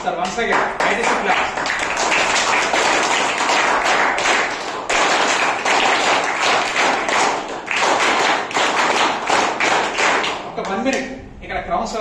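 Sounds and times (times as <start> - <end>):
crowd clapping in rhythm: 0.0 - 11.1.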